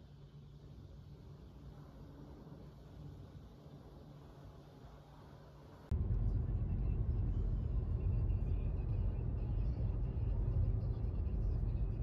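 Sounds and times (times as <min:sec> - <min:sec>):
car road and engine rumble: 0:00.1 - 0:12.0.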